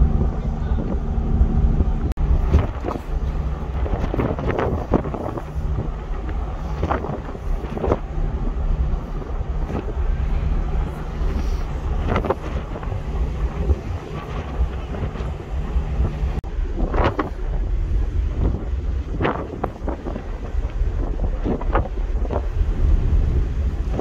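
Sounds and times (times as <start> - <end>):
ship engines humming: 0.0 - 24.0
wind buffeting microphone: 0.0 - 24.0.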